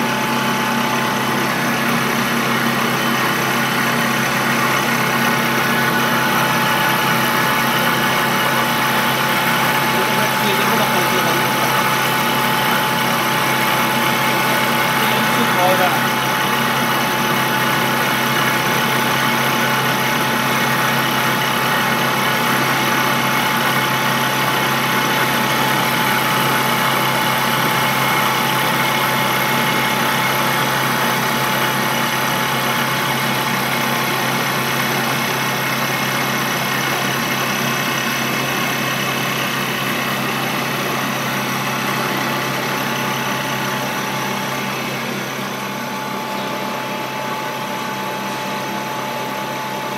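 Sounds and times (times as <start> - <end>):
lathe machining noise: 0.0 - 49.9.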